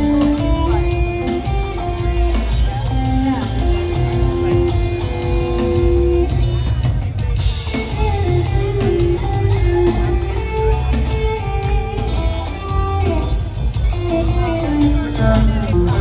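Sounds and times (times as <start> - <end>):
rock band jamming: 0.0 - 16.0.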